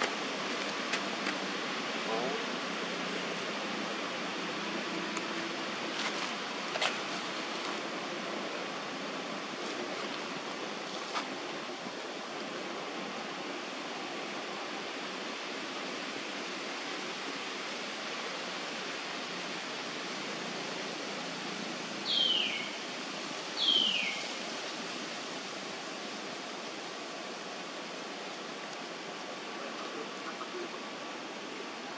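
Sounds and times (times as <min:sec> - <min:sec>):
outdoor background hiss: 0:00.0 - 0:31.9.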